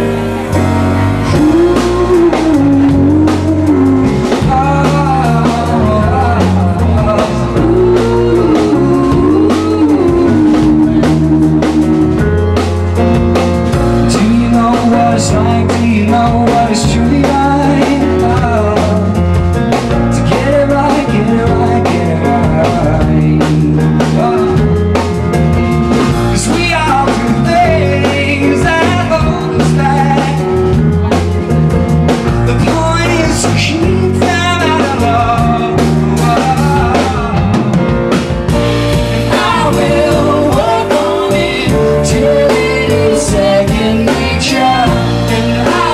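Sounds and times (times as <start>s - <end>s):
person singing: 0.0s - 12.4s, 14.0s - 19.4s, 20.0s - 25.1s, 26.3s - 31.3s, 32.5s - 45.9s
drum kit beat: 0.0s - 45.9s
piano: 0.0s - 45.9s.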